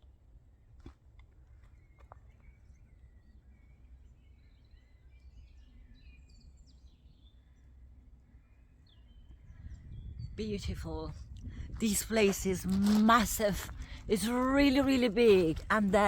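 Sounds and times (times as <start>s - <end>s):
songbirds chirping: 0.0s - 16.0s
low wind rumble: 1.4s - 16.0s.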